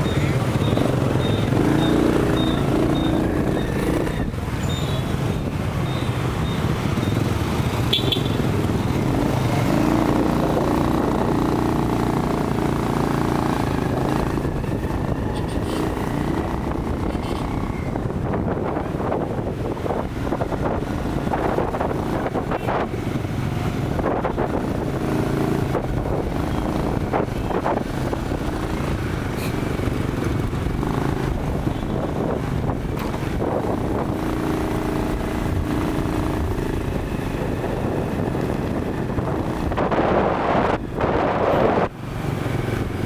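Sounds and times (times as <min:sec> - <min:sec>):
wind buffeting microphone: 0:00.0 - 0:43.0
motorcycle engine at speed: 0:00.3 - 0:04.4, 0:06.8 - 0:43.0.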